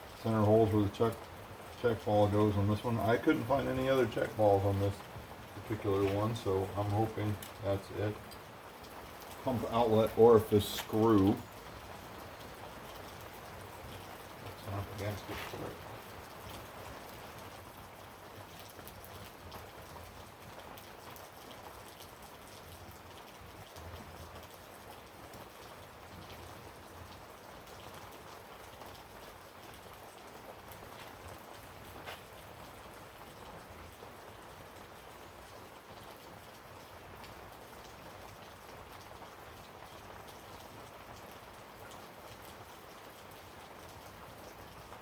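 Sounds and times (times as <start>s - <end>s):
rain pattering: 0.0s - 45.0s.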